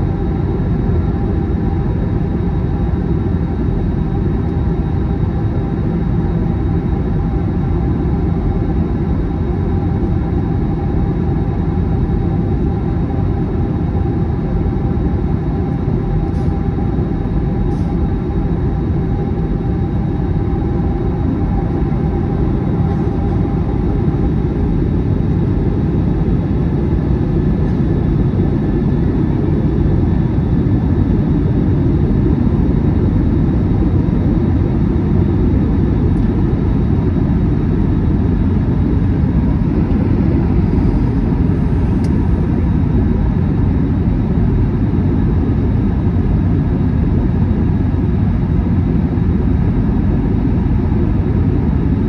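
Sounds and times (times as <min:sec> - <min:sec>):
jet engine and airflow rumble: 0:00.0 - 0:52.0.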